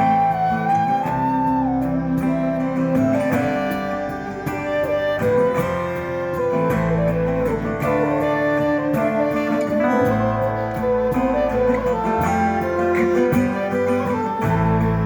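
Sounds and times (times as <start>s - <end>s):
bass line: 0.0s - 15.0s
guitar melody: 0.0s - 15.0s.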